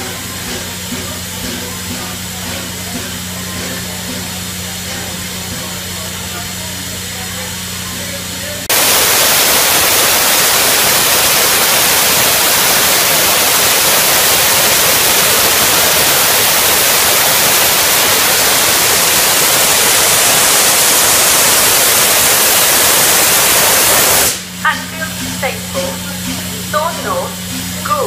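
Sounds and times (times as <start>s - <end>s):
loud hiss of escaping steam: 0.0s - 28.0s.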